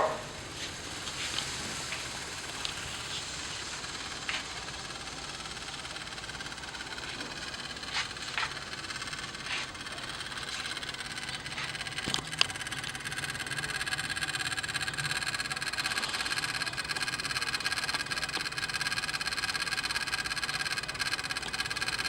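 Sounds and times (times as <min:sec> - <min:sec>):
rapid clicking in engine bay: 0:00.0 - 0:22.0.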